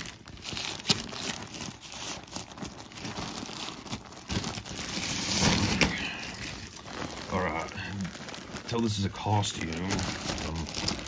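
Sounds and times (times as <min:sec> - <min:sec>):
plastic mailer crinkling and tearing: 0:00.0 - 0:11.0.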